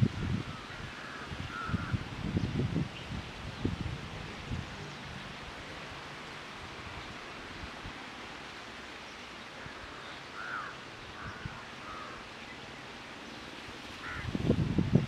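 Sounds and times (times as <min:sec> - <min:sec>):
rustle of air and vegetation: 0:00.0 - 0:15.0.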